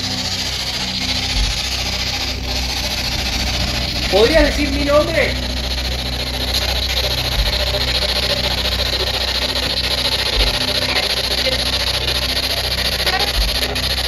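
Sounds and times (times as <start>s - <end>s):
choppy radio static hiss: 0.0s - 14.0s
low steady hum: 0.0s - 14.0s.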